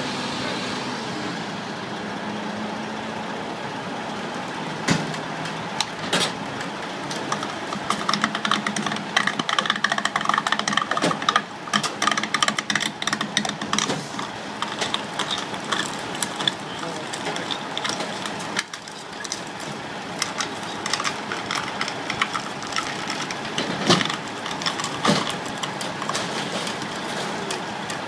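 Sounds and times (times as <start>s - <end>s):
diesel truck engine idling: 0.0s - 28.0s
rapid irregular clicking and clattering: 4.9s - 28.0s.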